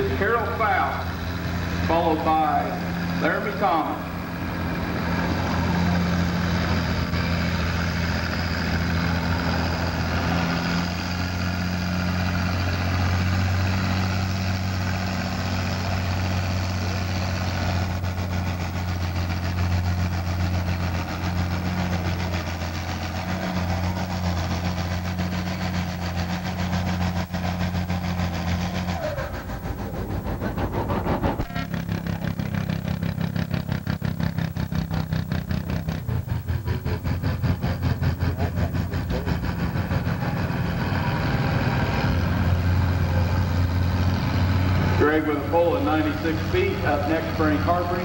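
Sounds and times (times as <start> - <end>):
tractor engine under heavy load: 0.0 - 48.0.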